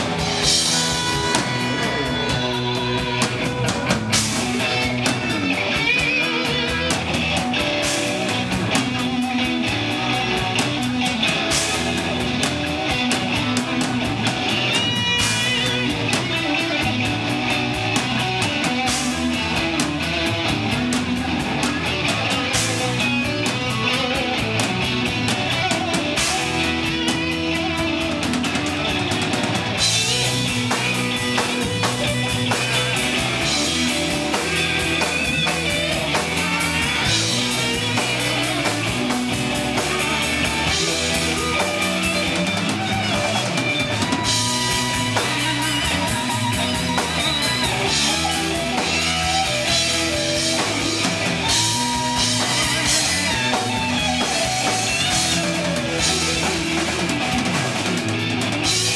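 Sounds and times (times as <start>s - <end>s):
drums and cymbals: 0.0s - 58.9s
electric guitar: 0.0s - 58.9s
live rock band: 0.0s - 58.9s.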